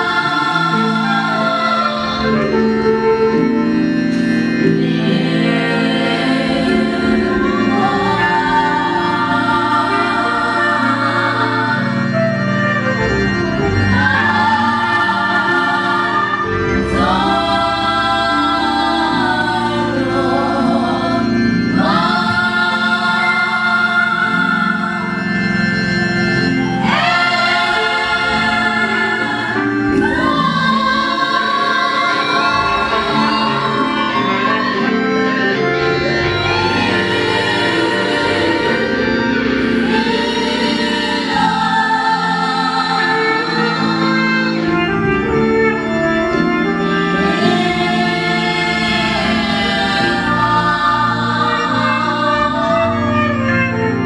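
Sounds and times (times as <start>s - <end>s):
choir singing a hymn: 0.0s - 54.0s
sustained organ: 0.0s - 54.0s.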